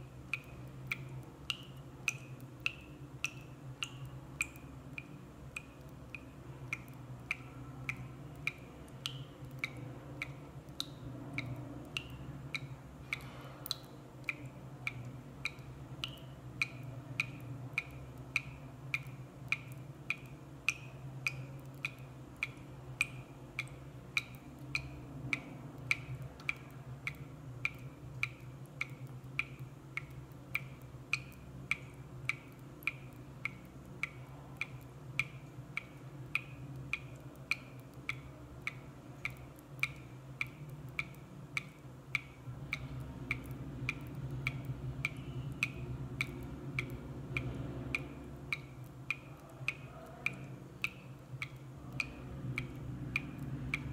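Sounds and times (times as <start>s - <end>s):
water dripping from tap: 0.0s - 53.9s.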